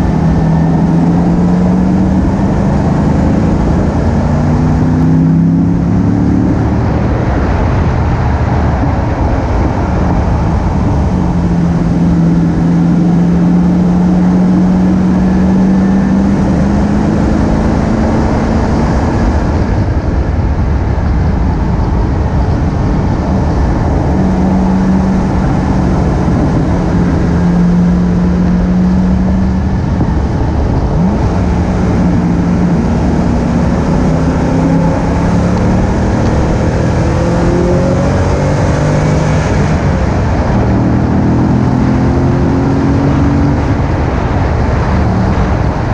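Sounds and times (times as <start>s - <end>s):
car engine at speed: 0.0s - 45.9s
wind and road noise: 0.0s - 45.9s.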